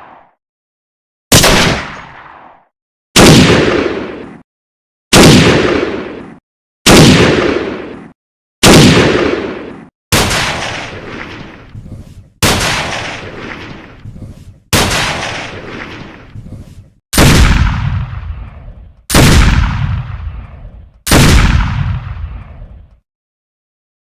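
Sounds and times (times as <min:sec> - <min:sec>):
gunshots with echo: 0:00.0 - 0:00.4, 0:01.3 - 0:04.4, 0:05.1 - 0:22.7.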